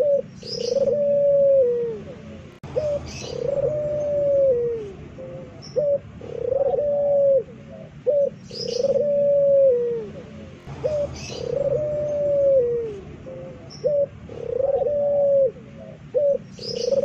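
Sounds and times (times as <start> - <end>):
dove cooing loudly: 0.0 - 17.0.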